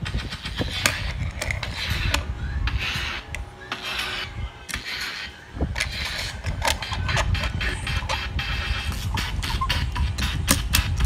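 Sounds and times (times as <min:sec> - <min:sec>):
toy car wheels rasping on wood: 0:00.1 - 0:11.0.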